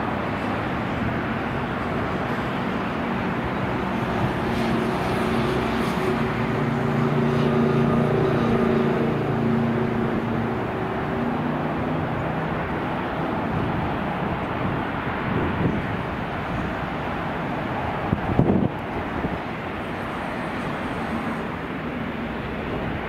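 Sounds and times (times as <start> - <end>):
distant jet engines at takeoff: 0.0 - 23.0.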